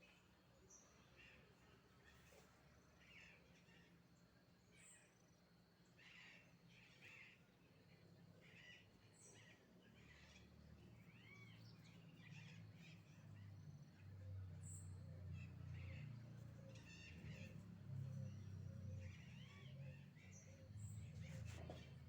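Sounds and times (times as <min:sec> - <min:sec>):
faint bird calls and chirps: 0:00.0 - 0:22.0.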